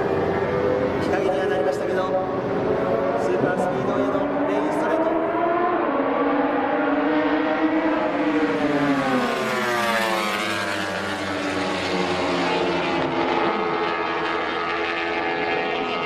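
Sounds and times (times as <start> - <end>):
racing engine revving: 0.0 - 16.0.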